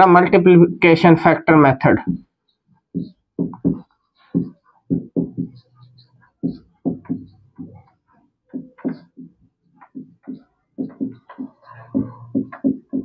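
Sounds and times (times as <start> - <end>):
marker writing on whiteboard: 1.9 - 13.0.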